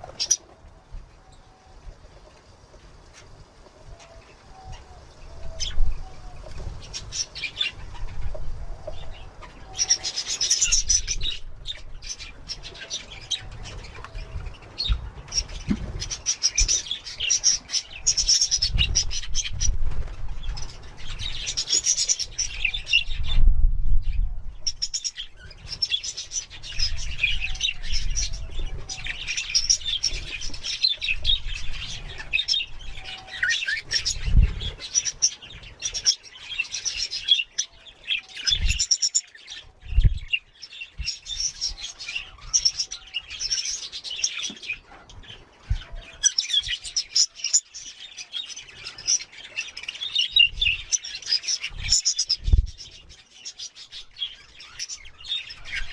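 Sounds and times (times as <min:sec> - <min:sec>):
budgerigars chirping and chattering: 0:00.0 - 0:00.5, 0:04.0 - 0:23.4, 0:24.6 - 0:55.9.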